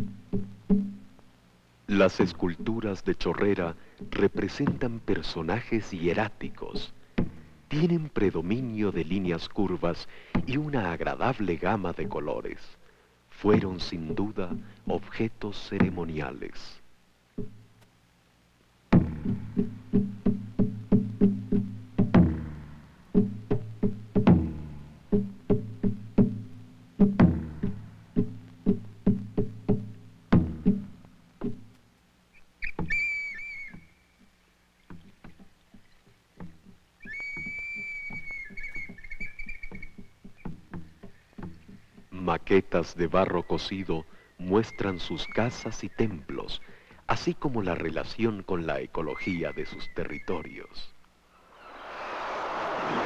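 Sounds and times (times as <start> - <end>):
low notes in steady rhythm: 0.0 - 32.9, 38.7 - 51.3.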